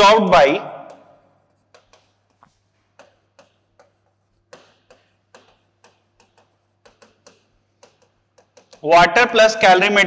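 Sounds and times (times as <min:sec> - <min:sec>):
marker writing on whiteboard: 0:00.0 - 0:10.0.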